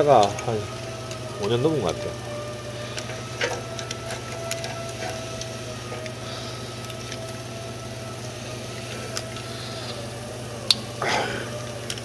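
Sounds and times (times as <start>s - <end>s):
steady low hum: 0.0s - 12.0s
wiring harness rustling: 0.0s - 12.0s.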